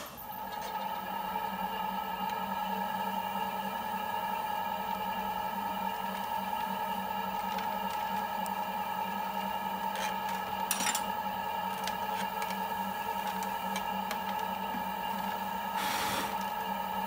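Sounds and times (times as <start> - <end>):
potter's wheel motor whine: 0.0 - 17.0.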